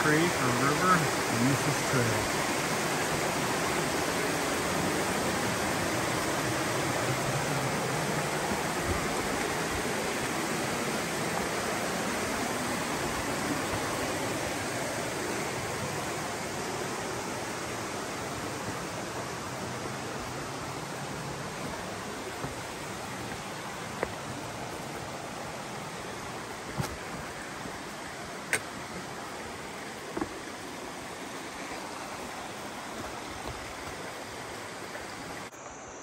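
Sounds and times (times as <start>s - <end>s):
creek rushing over rocks: 0.0s - 35.5s.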